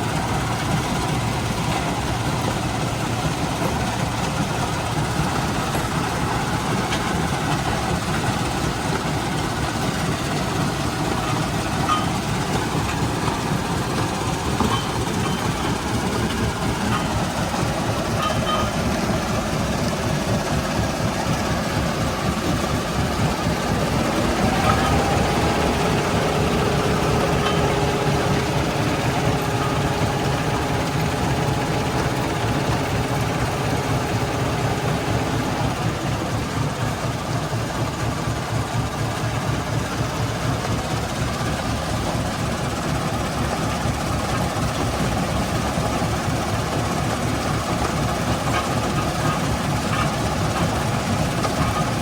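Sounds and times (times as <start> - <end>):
heavy machinery rumbling: 0.0 - 52.0
higher machinery hum: 0.0 - 52.0
machinery hum: 0.0 - 52.0.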